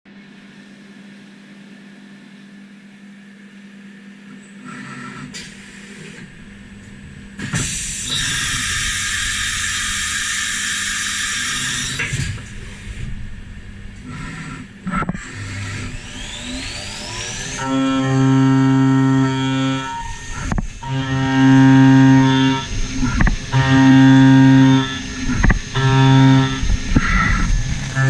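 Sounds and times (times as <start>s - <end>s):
milling machine humming: 0.1s - 28.0s.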